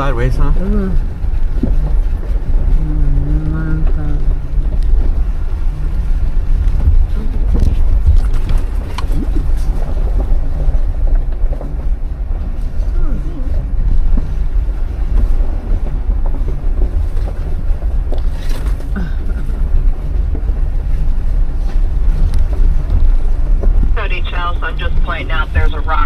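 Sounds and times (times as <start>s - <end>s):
off-road vehicle engine rumble: 0.0s - 26.0s
wind buffeting microphone: 0.0s - 26.0s.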